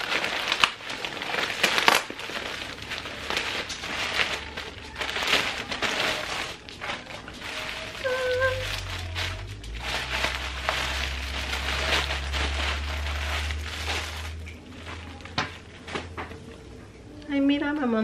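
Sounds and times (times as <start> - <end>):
packaging rustling and crinkling: 0.0 - 16.5.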